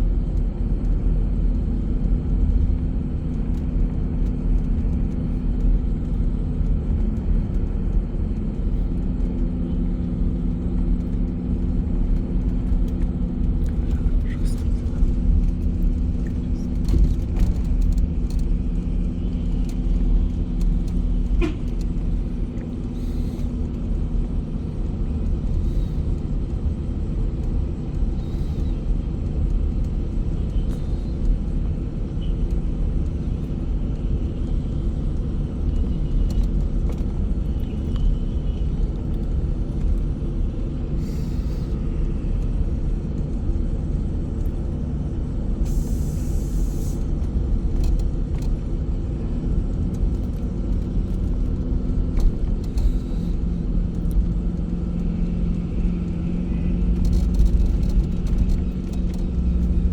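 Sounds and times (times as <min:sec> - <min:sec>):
bus engine and road rumble: 0:00.0 - 0:59.9
engine hum: 0:00.0 - 0:59.9.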